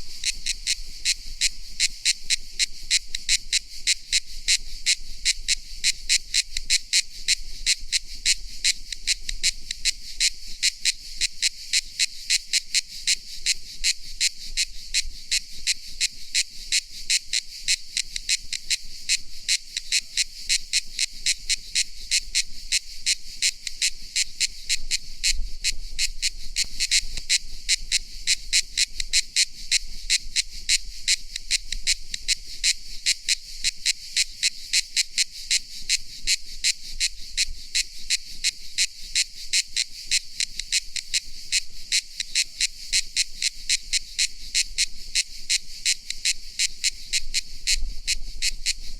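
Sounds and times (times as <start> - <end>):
cicada calling: 0.0 - 48.9.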